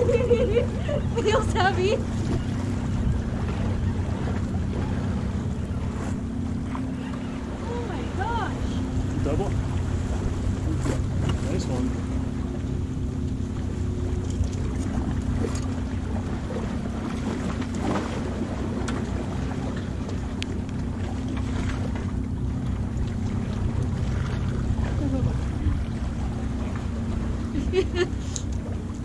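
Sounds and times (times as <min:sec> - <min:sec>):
sea against rocks: 0:00.0 - 0:29.0.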